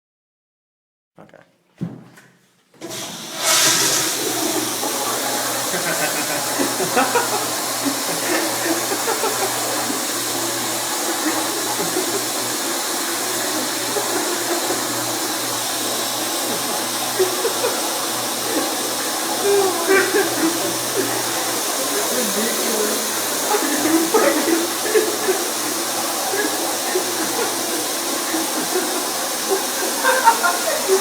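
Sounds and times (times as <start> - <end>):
toilet flushing: 2.8 - 31.0.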